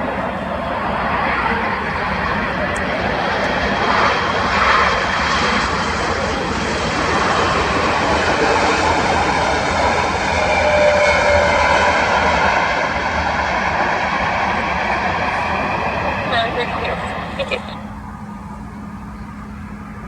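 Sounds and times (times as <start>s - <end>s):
jet engines roaring with whine: 0.0s - 20.0s.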